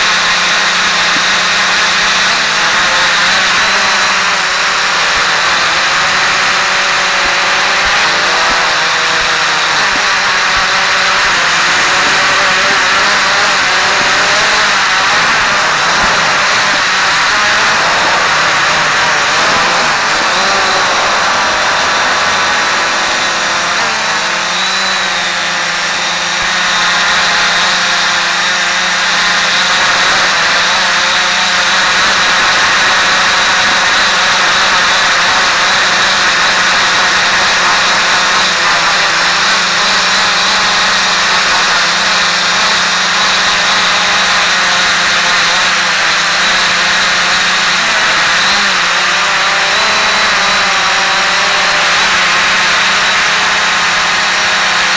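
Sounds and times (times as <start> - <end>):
drone propellers buzzing: 0.0 - 54.9.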